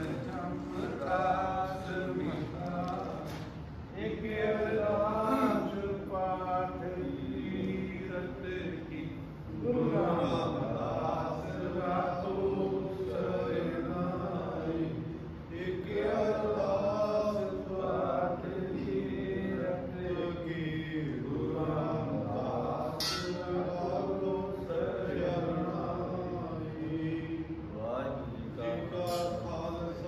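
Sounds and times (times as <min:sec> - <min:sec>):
man chanting: 0:00.0 - 0:30.0.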